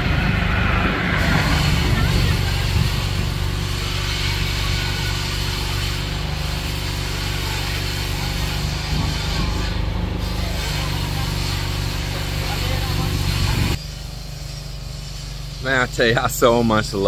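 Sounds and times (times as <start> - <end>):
street traffic: 0.0 - 17.0
vehicle engine droning: 0.0 - 17.0.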